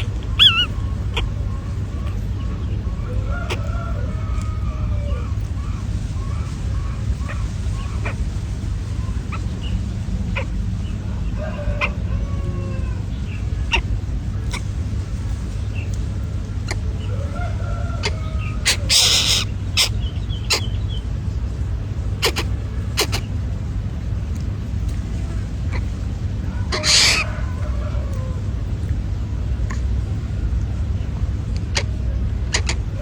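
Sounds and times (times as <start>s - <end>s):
chickens clucking: 0.0s - 33.0s
steady low rumble: 0.0s - 33.0s.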